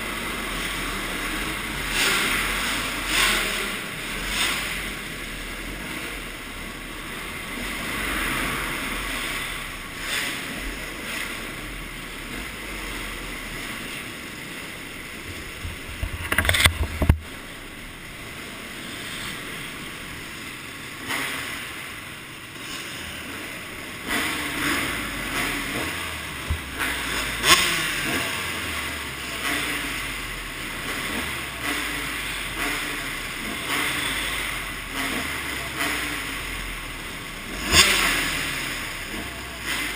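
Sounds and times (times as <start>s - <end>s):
motocross bike engine: 0.0s - 39.9s.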